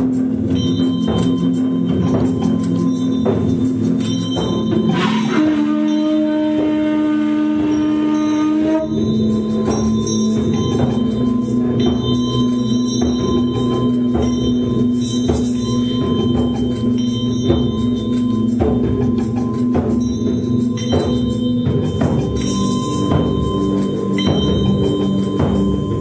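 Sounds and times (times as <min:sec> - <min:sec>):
light percussion strikes: 0:00.0 - 0:26.0
ringing metallic tones: 0:00.0 - 0:26.0.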